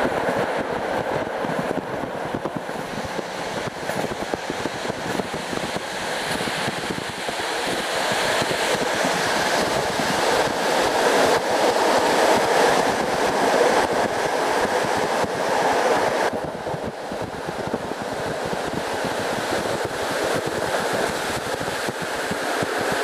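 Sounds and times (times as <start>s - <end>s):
wheel-on-rail rush inside train: 0.0s - 23.0s.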